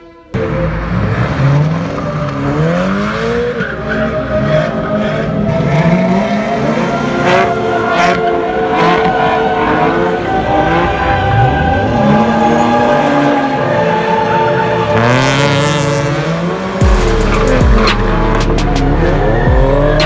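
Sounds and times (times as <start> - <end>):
sports car engines revving: 0.3 - 20.0.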